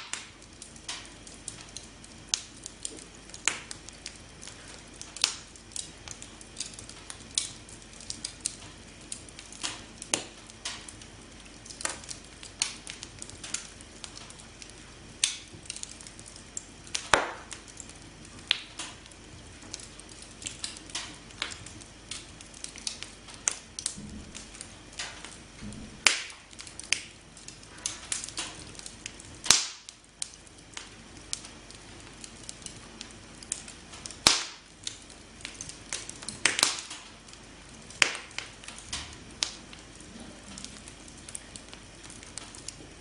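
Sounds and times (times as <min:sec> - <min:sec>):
campfire crackling: 0:00.0 - 0:43.0
hiss of burning: 0:00.0 - 0:43.0.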